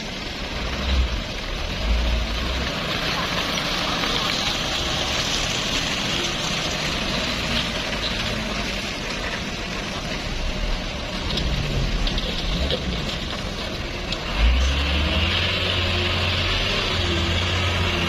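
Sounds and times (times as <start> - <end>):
diesel truck engine labouring: 0.0 - 18.0.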